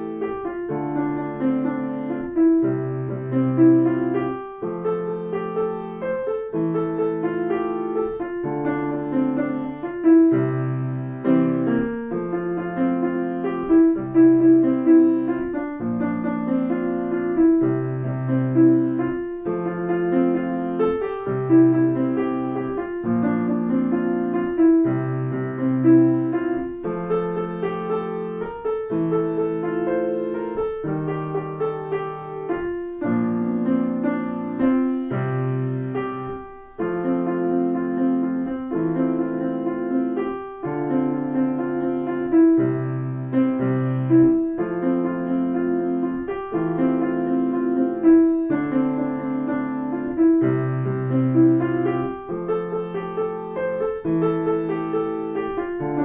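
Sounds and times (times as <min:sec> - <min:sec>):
grand piano chords: 0:00.0 - 0:56.0.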